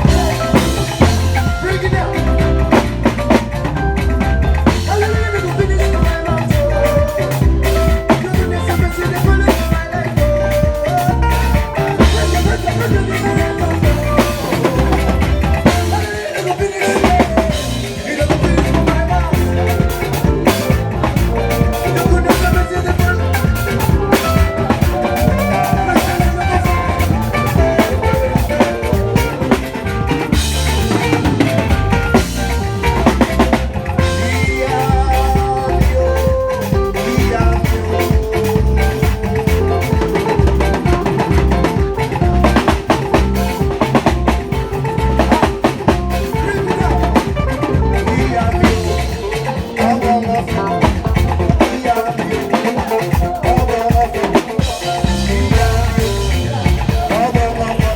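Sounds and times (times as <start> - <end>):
pulsing bass line: 0.0 - 16.3, 16.9 - 51.9, 53.1 - 57.9
band playing a groove: 0.0 - 57.9
drum kit hits: 0.0 - 57.9.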